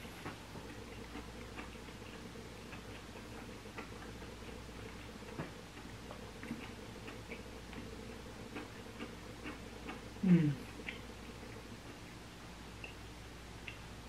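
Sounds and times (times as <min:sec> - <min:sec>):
close-up chewing: 0:00.0 - 0:13.8.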